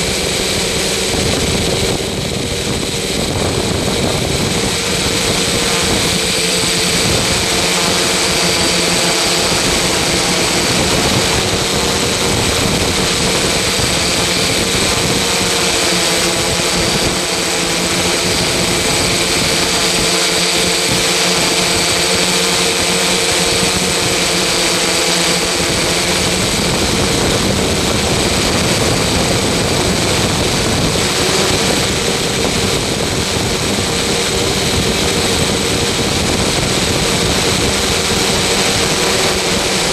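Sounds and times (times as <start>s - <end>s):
machine droning with high whine: 0.0s - 39.9s.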